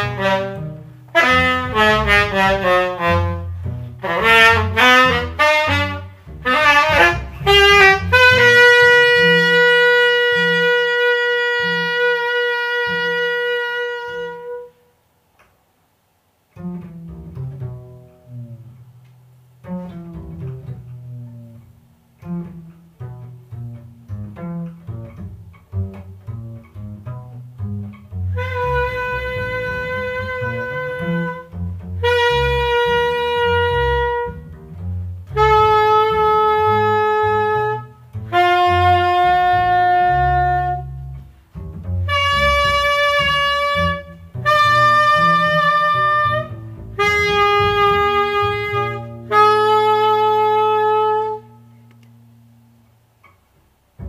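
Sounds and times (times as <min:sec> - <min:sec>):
moving bass line: 0:00.0 - 0:13.4, 0:19.6 - 0:52.8.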